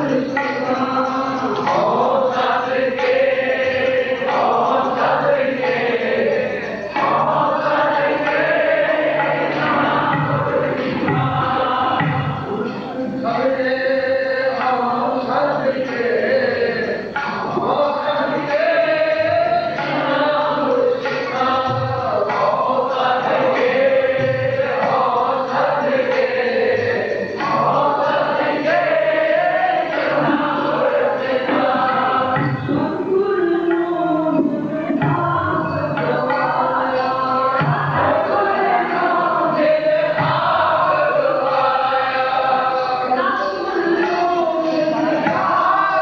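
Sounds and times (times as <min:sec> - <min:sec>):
men singing a hymn together: 0:00.0 - 0:46.0
sustained harmonium: 0:00.0 - 0:46.0
tabla drumming: 0:00.0 - 0:46.0.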